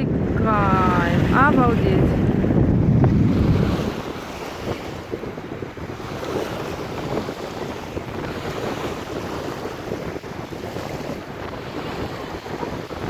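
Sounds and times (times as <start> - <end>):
sea water rushing and splashing: 0.0 - 13.0
wind buffeting microphone: 0.0 - 13.0.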